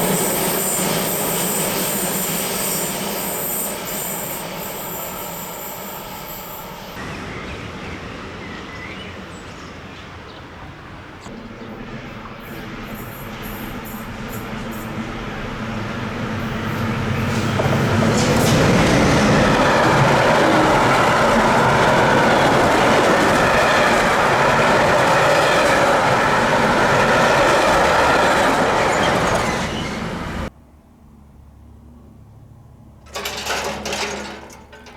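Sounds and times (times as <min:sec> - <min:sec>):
train wheel squeal: 0:00.0 - 0:09.1, 0:11.4 - 0:30.5
train rumbling past: 0:00.0 - 0:34.9.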